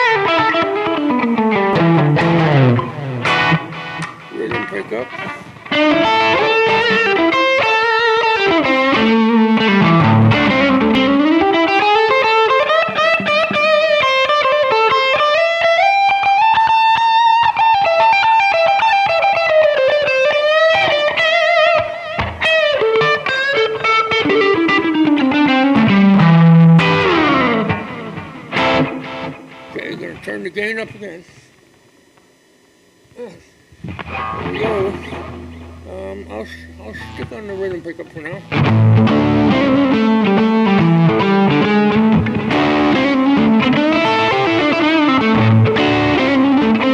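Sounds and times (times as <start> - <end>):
electric guitar melody: 0.0 - 30.3, 32.0 - 46.9.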